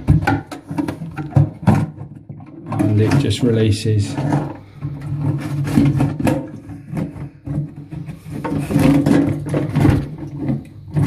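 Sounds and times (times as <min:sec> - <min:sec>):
plastic clicks and scraping: 0:00.0 - 0:11.0.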